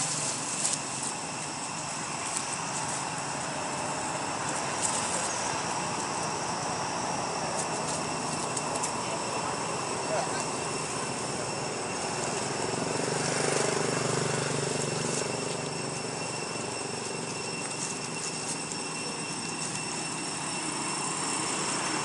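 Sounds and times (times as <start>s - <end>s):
outdoor background hiss: 0.0s - 22.0s
faint high tones: 0.1s - 22.0s.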